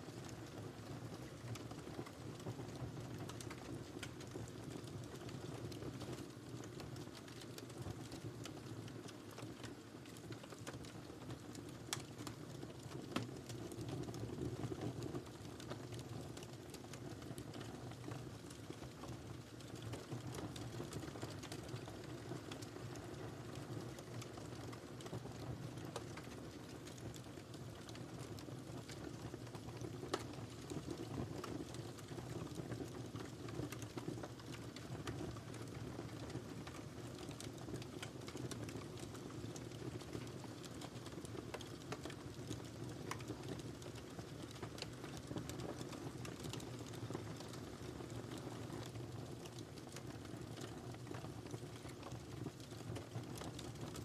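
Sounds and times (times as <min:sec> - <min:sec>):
fire rumbling in fireplace: 0:00.1 - 0:54.0
wood crackling and popping: 0:00.2 - 0:54.0.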